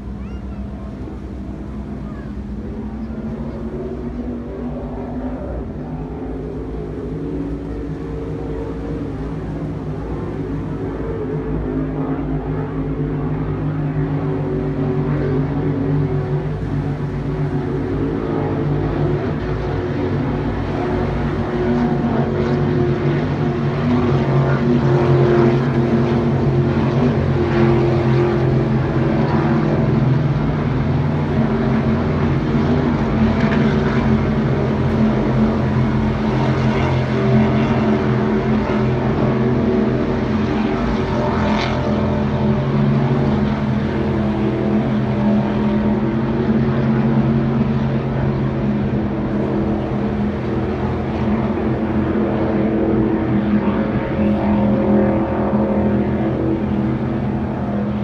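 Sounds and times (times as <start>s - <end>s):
powerboat engines droning: 0.0s - 58.0s.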